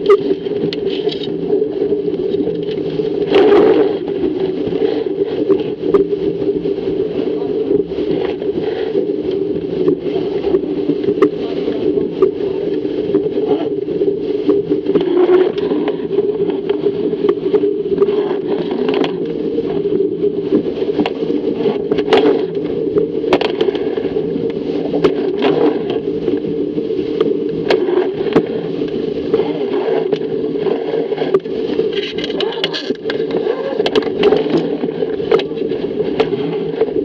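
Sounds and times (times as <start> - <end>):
water rushing: 0.0 - 37.0
waves slapping hull: 0.0 - 37.0
wind buffeting camera: 0.0 - 37.0.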